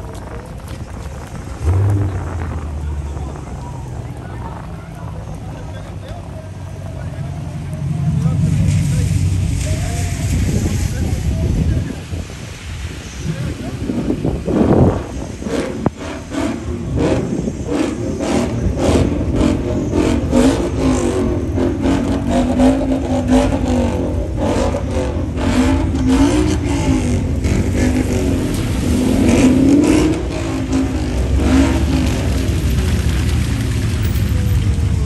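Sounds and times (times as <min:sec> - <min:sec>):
car engine revving: 0:00.0 - 0:35.0
exhaust crackles: 0:00.0 - 0:35.0.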